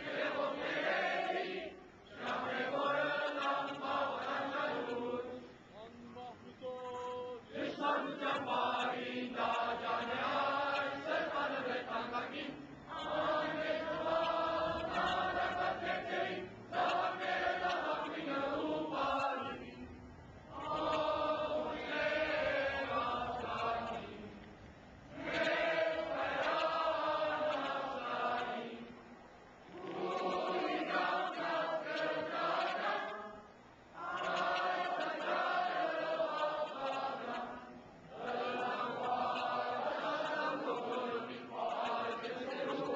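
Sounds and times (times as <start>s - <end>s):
choir singing: 0.0s - 5.6s, 7.4s - 24.5s, 25.1s - 42.9s.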